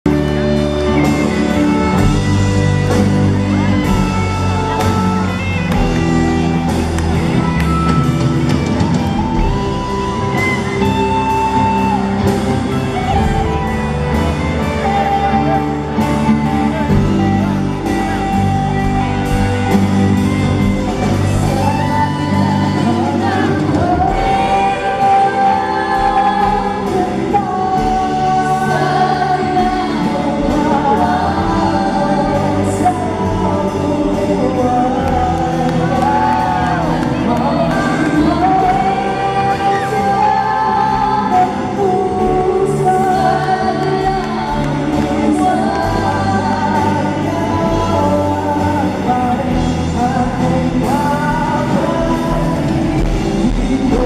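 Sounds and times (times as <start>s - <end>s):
live rock band ballad: 0.0s - 54.0s
person singing: 0.0s - 54.0s.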